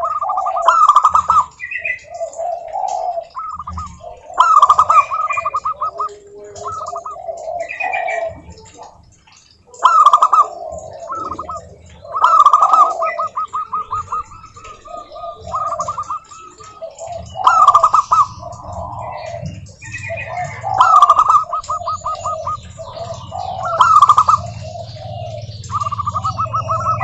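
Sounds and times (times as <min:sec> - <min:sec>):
doves cooing rapidly: 0:00.0 - 0:27.0
soft low coos and chirps: 0:00.0 - 0:27.0.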